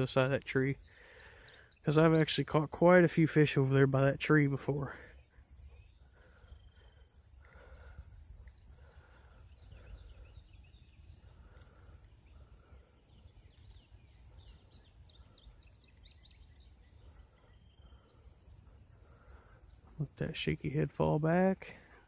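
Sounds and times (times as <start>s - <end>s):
birds chirping: 0.0s - 22.0s
high insect drone: 0.0s - 22.0s.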